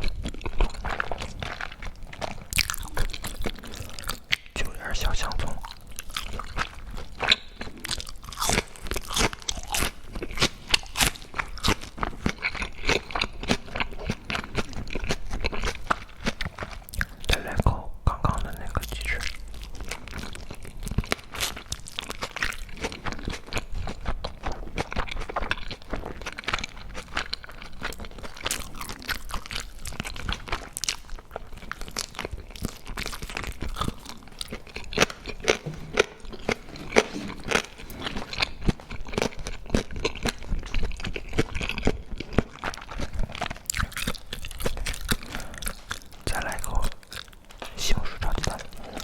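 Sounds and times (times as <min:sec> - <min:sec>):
person chewing crisp food: 0:00.0 - 0:49.0.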